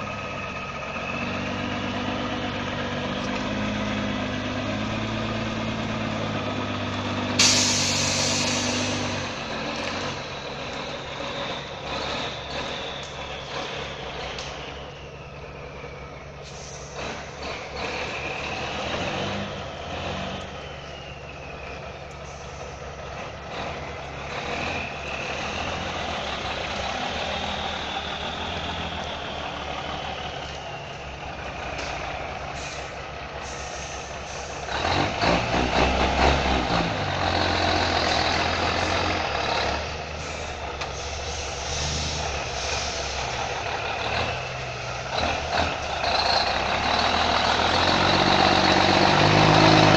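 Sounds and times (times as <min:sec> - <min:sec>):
engine whine: 0:00.0 - 0:49.9
truck diesel engine running: 0:00.0 - 0:49.9.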